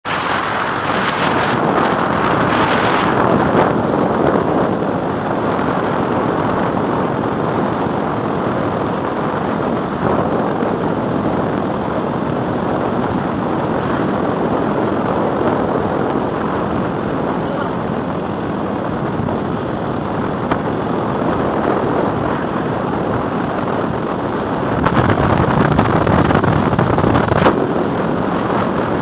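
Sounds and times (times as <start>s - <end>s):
wind and road noise: 0.0s - 29.0s
wind buffeting microphone: 0.0s - 29.0s.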